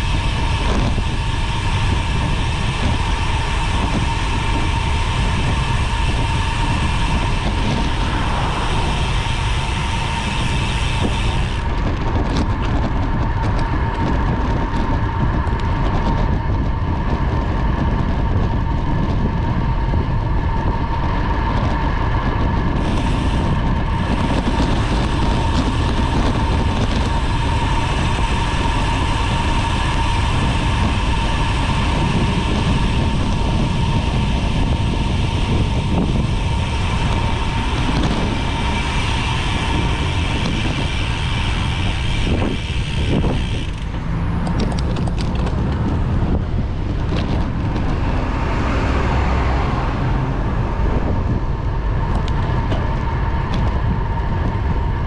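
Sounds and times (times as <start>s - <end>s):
bicycle road noise whine: 0.0s - 55.0s
wind rushing over microphone: 0.0s - 55.0s.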